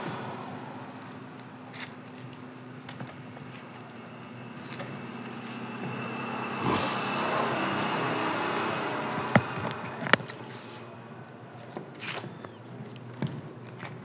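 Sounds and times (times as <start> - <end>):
passing vehicle engine: 0.0 - 13.2
steady low hum: 0.0 - 14.0.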